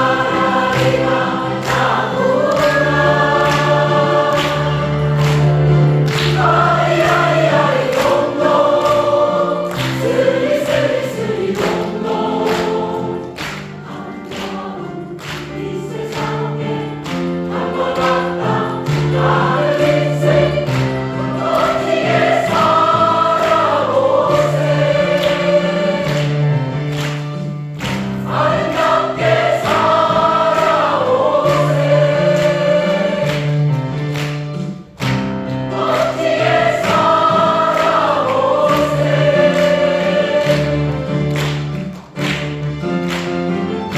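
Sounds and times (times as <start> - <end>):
mixed choir singing: 0.0 - 27.2, 27.8 - 34.1, 35.4 - 42.2.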